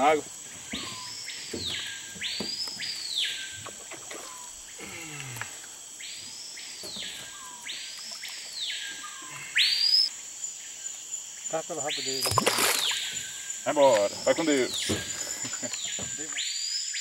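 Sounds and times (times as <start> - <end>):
high hum of insects: 0.0 - 17.0.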